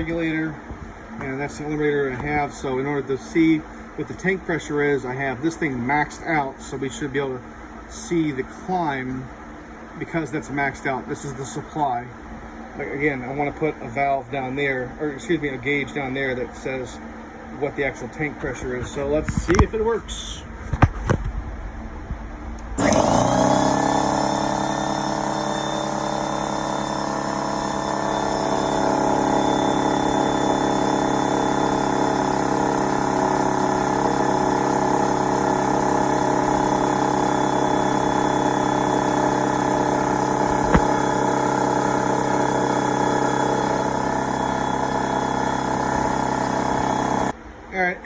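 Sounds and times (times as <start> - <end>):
air compressor running: 0.0 - 47.4.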